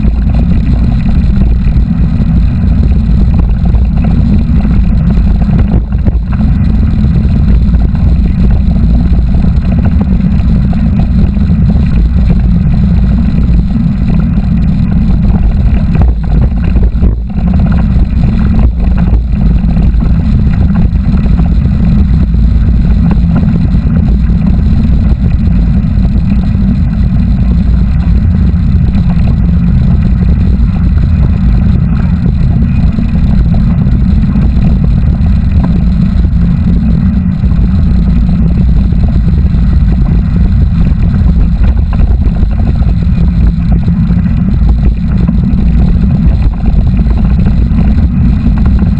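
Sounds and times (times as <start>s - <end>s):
bike rolling noise: 0.0s - 48.9s
wind buffeting microphone: 0.0s - 48.9s.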